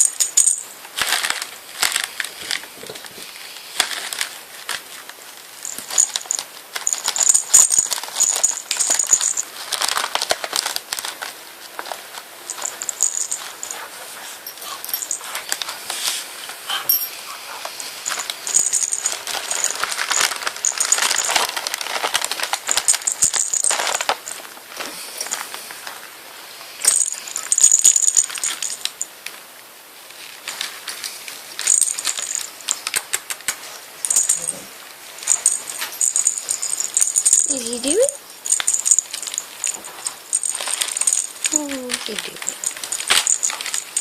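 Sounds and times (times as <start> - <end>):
kittens playing with jingling toys: 0.0 - 2.6, 5.6 - 26.0, 26.8 - 29.1, 30.4 - 44.0.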